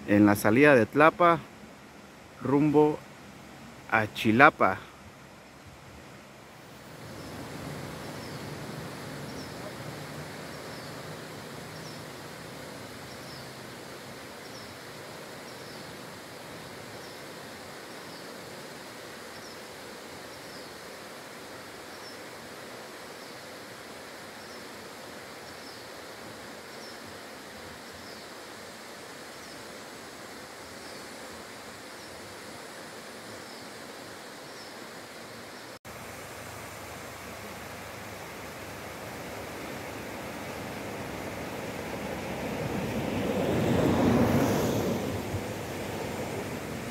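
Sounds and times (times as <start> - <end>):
waterfall rushing: 6.6 - 46.9.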